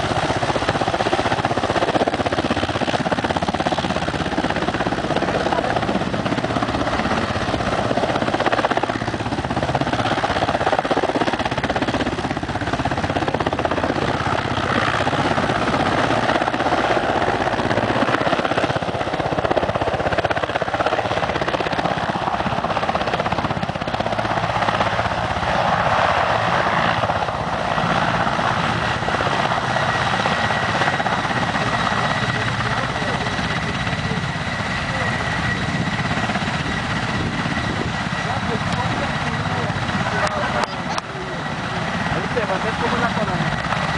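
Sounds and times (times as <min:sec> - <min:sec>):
helicopter rotor and turbine: 0:00.0 - 0:43.9.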